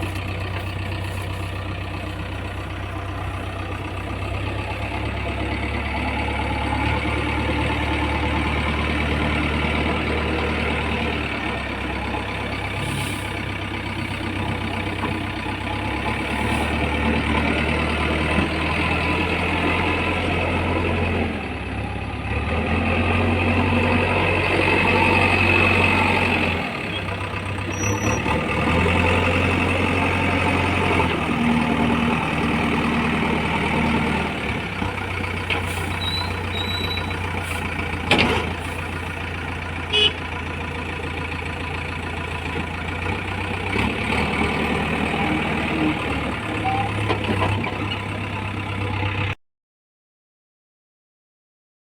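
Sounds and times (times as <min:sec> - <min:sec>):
diesel engine running: 0:00.0 - 0:49.4.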